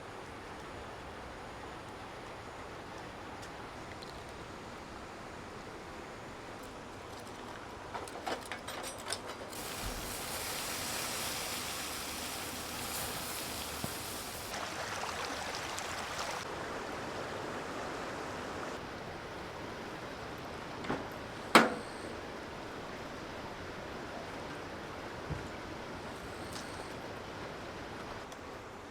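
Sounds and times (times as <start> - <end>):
outdoor background noise: 0.0 - 28.9.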